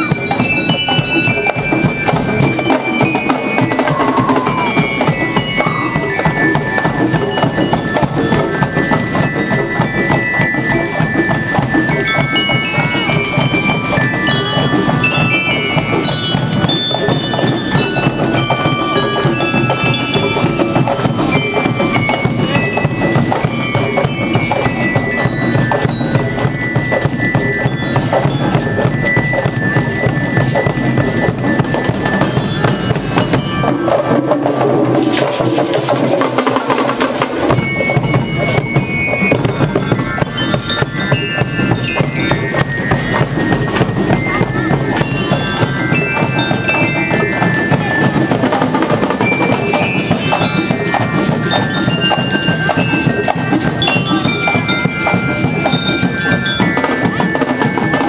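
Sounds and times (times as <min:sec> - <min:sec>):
bell lyre melody: 0:00.0 - 0:58.0
fast drumbeats: 0:00.0 - 0:58.0.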